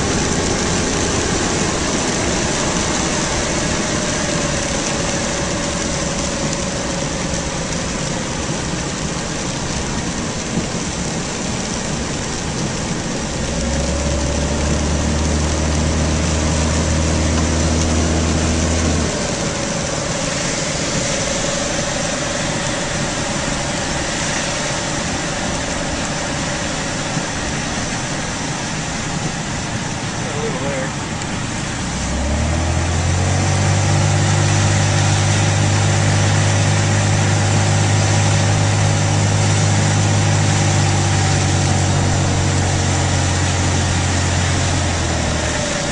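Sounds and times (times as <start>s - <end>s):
car engine running: 0.0s - 45.9s
deep engine drone: 0.0s - 45.9s
rain and wet road hiss: 0.0s - 45.9s.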